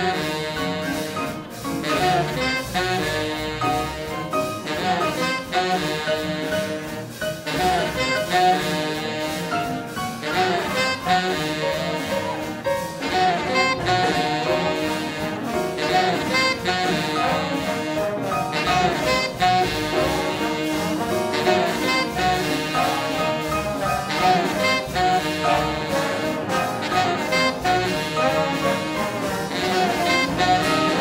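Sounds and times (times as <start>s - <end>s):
big band swing jazz: 0.0s - 31.0s.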